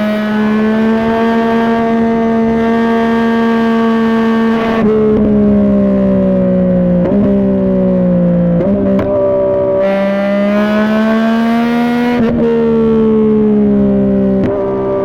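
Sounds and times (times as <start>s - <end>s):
motorcycle engine at speed: 0.0s - 15.0s.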